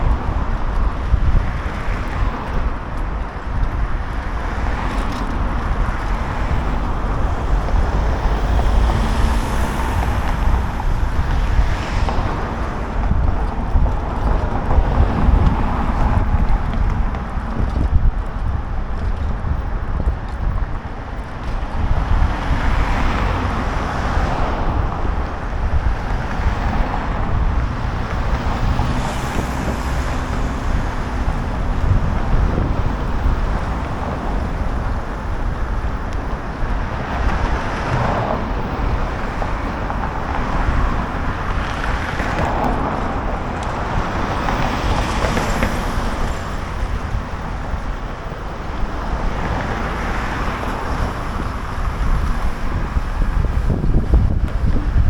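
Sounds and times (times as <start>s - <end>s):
road traffic noise: 0.0s - 55.0s
vehicles passing: 0.0s - 55.0s
wind buffeting microphone: 0.0s - 55.0s.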